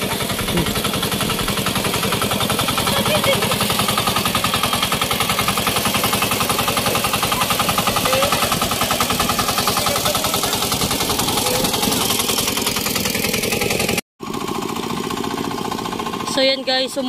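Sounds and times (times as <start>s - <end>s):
tiller engine chugging: 0.0s - 17.0s.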